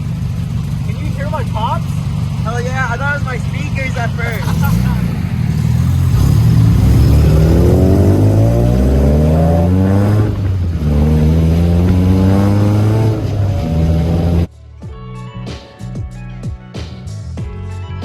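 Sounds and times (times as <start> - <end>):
car engine accelerating hard: 0.0 - 14.5.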